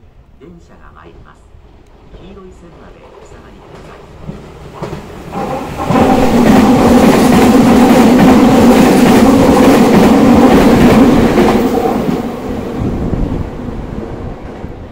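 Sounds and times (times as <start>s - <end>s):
electric train passing: 0.0s - 14.9s.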